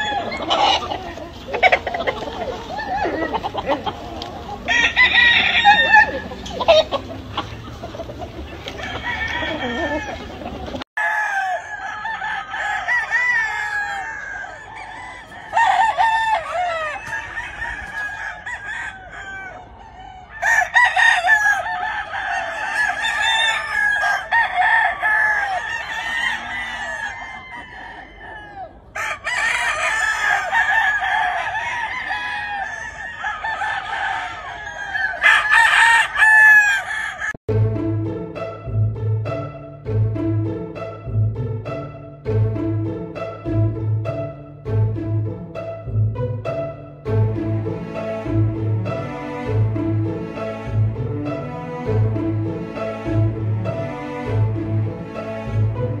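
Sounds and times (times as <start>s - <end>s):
roosters crowing and clucking: 0.0s - 56.0s.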